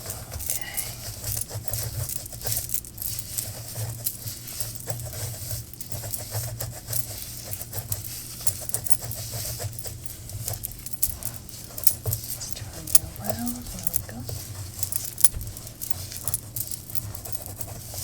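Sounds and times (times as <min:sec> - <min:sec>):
gloved hands rubbing hair: 0:00.0 - 0:18.0.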